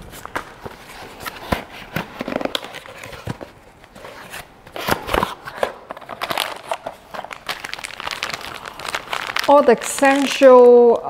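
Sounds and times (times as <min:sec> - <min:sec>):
cardboard tearing: 0:00.0 - 0:10.9.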